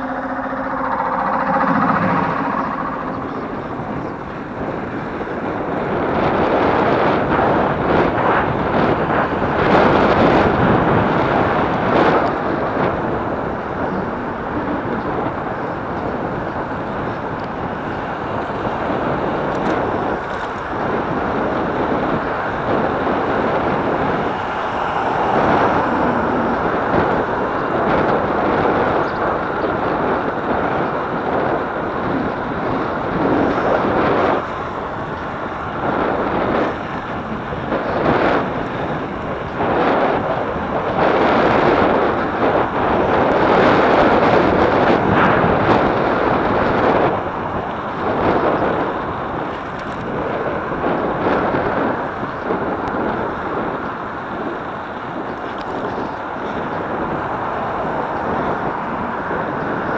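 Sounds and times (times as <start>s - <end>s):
road noise: 0.0s - 59.9s
wind rushing over microphone: 0.0s - 59.9s.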